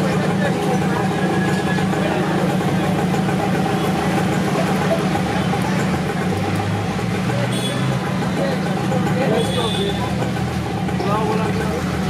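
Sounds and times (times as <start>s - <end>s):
low rumble of engines: 0.0s - 12.0s
street noise: 0.0s - 12.0s.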